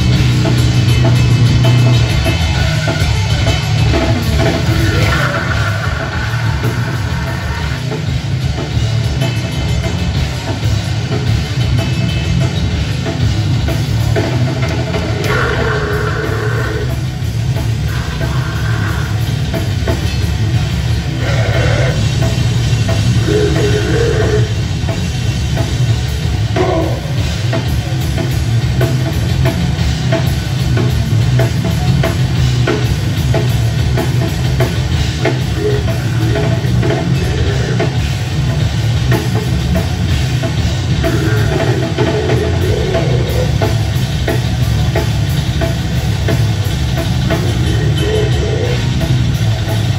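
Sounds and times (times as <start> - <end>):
bass guitar: 0.0 - 49.9
distorted electric guitar: 0.0 - 49.9
pounding drum kit: 0.0 - 49.9.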